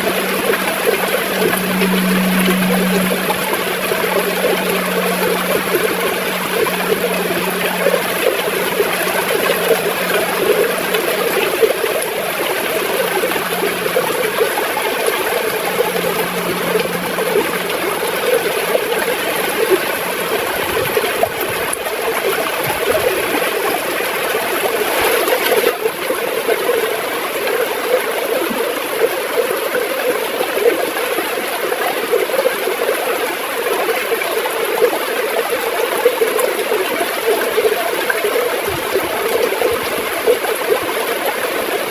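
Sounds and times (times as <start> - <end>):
river water gurgling: 0.0 - 41.9.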